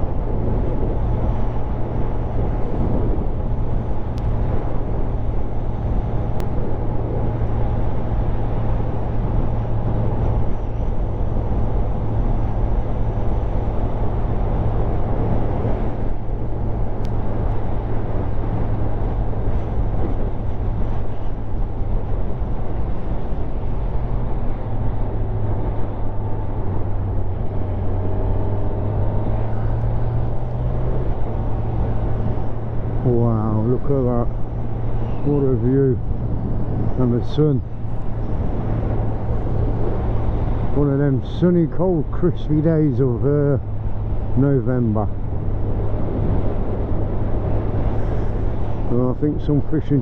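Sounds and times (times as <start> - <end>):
wind rushing on microphone: 0.0 - 50.0.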